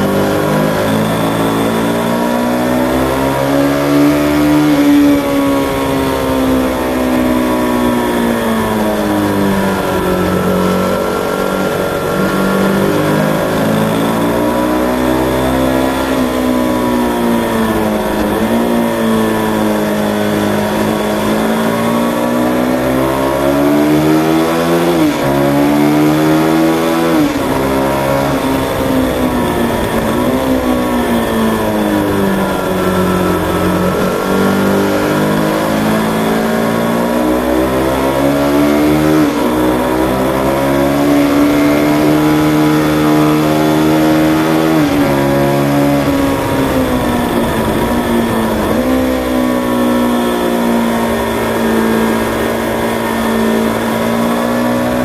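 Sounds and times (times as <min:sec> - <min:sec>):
motorcycle engine accelerating: 0:00.0 - 0:55.0
wind noise: 0:00.0 - 0:55.0.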